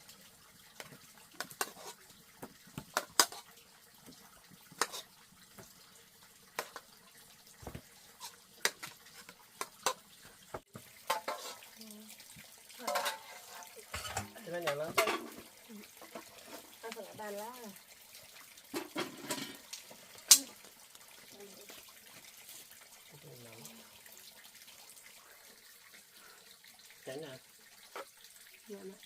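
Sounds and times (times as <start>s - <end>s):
water splashing: 0.0s - 25.8s.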